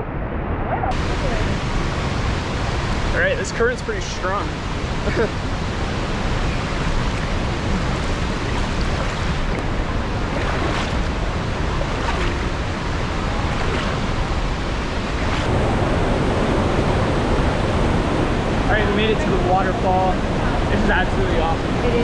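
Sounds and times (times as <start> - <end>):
faint water splashes: 0.9 - 22.0
river water rushing: 0.9 - 22.0.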